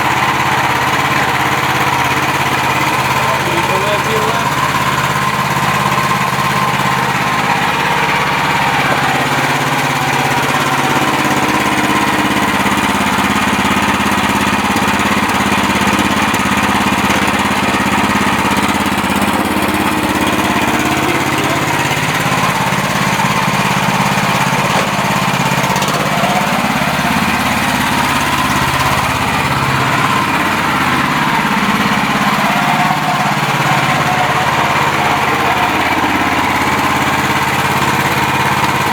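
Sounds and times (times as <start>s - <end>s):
petrol engine running: 0.0s - 38.9s.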